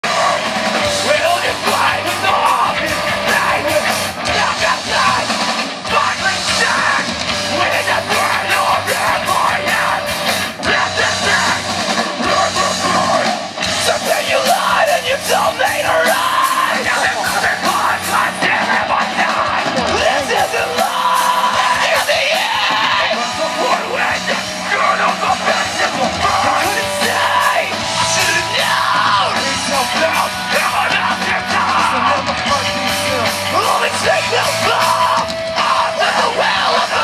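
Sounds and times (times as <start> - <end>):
distorted guitars: 0.0 - 37.0
heavy rock band playing: 0.0 - 37.0
pounding drums: 0.0 - 37.0
screamed vocals: 0.0 - 37.0.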